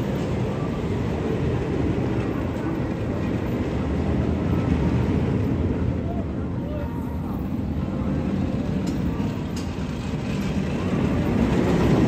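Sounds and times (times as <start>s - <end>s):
roller coaster train rumbling: 0.0s - 12.0s.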